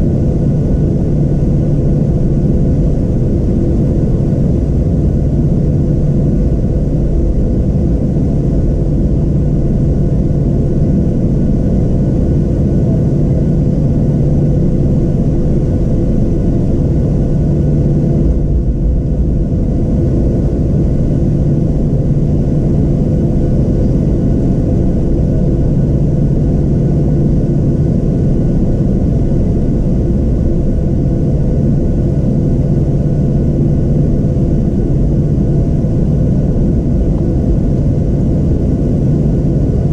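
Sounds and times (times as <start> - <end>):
jet engines idling: 0.1 - 39.9.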